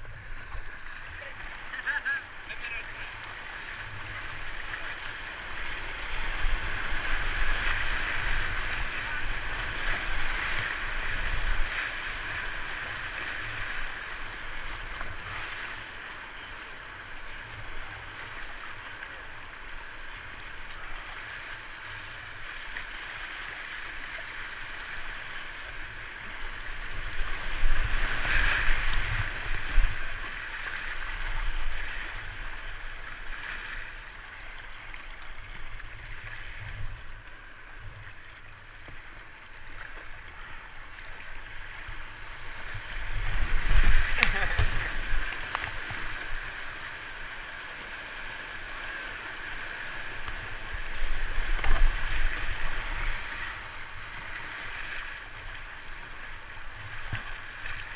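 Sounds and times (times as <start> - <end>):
whitewater rushing and splashing: 0.0 - 57.9.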